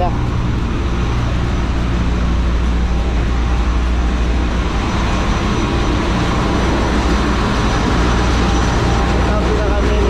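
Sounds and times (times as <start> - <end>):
diesel engines droning: 0.0 - 10.0.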